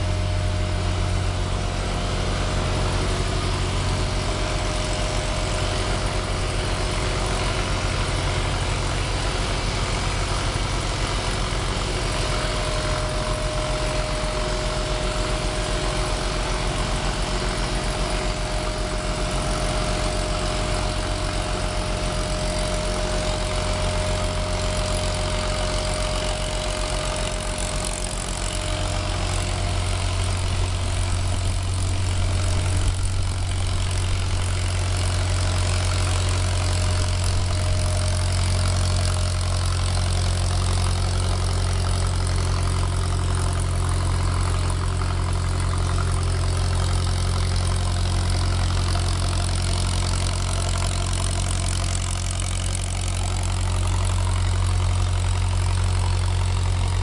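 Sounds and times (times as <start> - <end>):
machinery low drone: 0.0 - 57.0.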